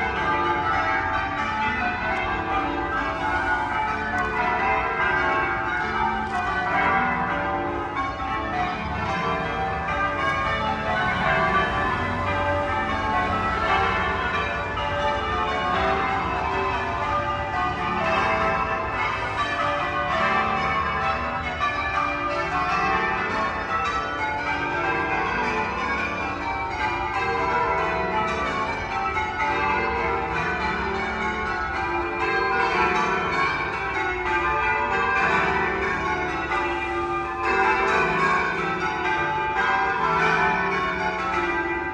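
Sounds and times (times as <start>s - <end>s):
church bells ringing: 0.0s - 41.9s.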